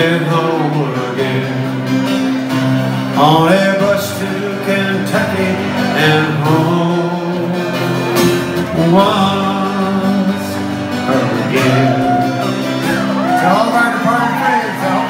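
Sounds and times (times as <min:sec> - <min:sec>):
acoustic guitar strummed: 0:00.0 - 0:15.0
man singing: 0:00.0 - 0:15.0.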